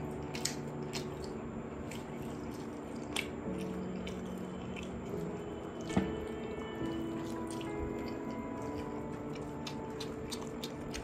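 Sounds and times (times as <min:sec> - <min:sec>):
chewing with wet mouth clicks: 0:00.0 - 0:11.0
soft background music: 0:00.0 - 0:11.0.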